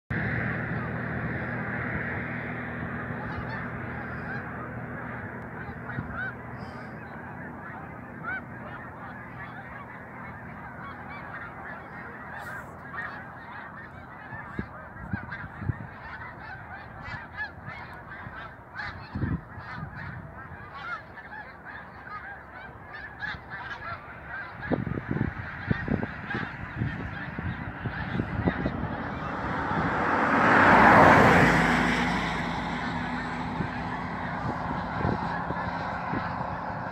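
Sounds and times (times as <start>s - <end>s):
flock of geese honking: 0.1s - 36.9s.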